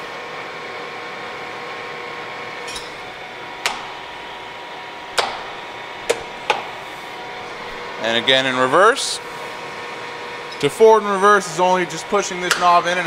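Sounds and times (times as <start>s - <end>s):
lathe gearing humming: 0.0s - 13.0s.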